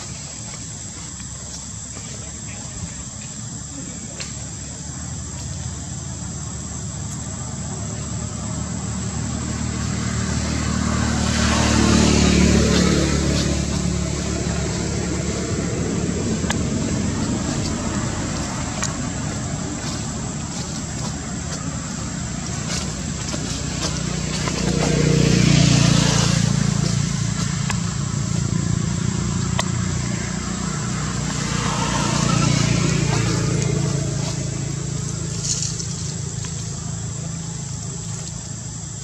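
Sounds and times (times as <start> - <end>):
vehicle engine drone: 0.0 - 39.0.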